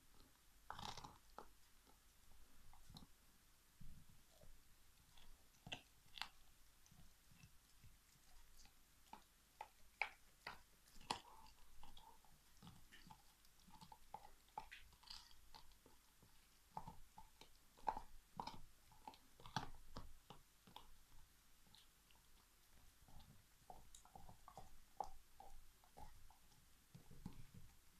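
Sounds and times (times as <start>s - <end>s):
dog gnawing a bone: 0.1s - 3.2s, 3.8s - 27.9s.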